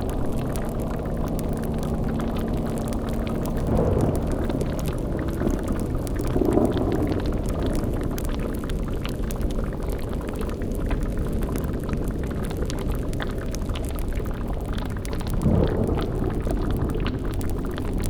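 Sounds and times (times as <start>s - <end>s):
cauldron bubbling: 0.0s - 18.0s
faint crackles: 0.0s - 18.0s
steady low rumble: 0.0s - 18.0s.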